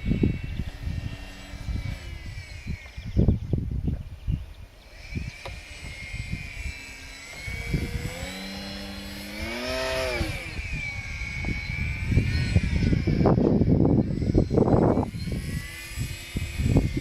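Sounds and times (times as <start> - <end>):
model airplane motor whining: 0.0 - 17.0
wind buffeting microphone: 0.0 - 17.0.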